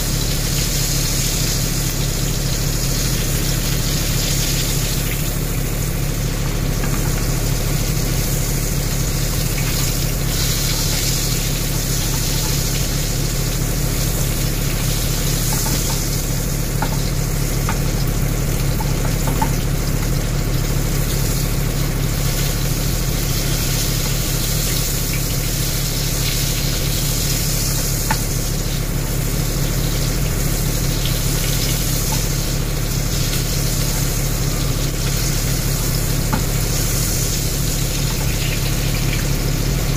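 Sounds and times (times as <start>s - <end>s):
low steady hum: 0.0s - 39.9s
steak sizzling: 0.0s - 39.9s.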